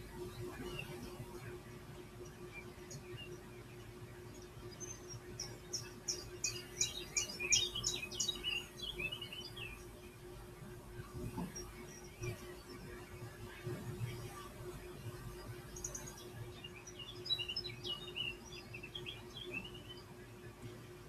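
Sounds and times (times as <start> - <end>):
birdsong through speakers: 0.0 - 21.0
steady hum: 0.0 - 21.0.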